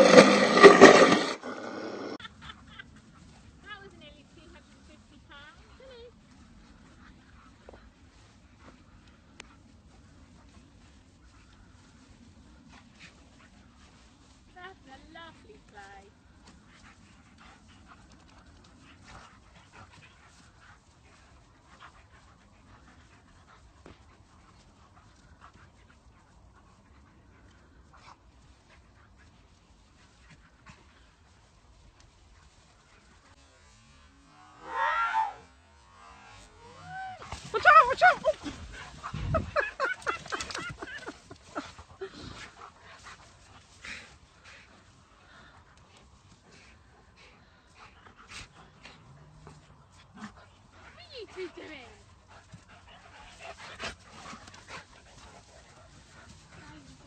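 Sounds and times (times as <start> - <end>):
dogs panting: 0.0 - 33.4, 35.9 - 57.0.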